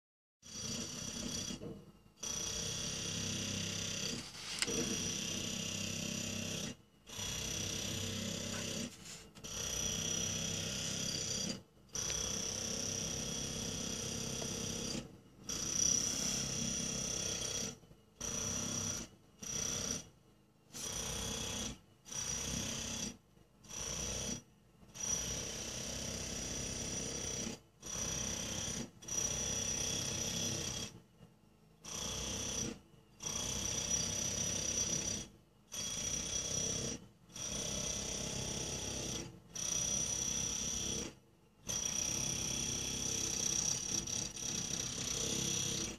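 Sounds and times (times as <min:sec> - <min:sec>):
jackhammer breaking concrete: 0:00.4 - 0:20.1, 0:20.8 - 0:31.0, 0:31.8 - 0:45.9.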